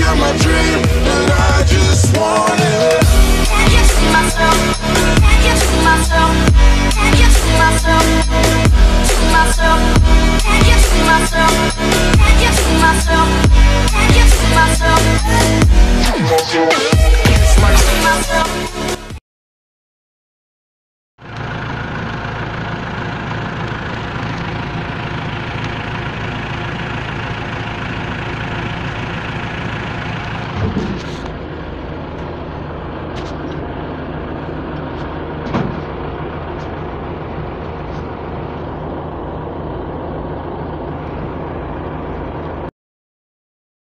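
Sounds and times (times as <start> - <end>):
tractor diesel engine running: 0.0 - 19.1, 21.2 - 42.7.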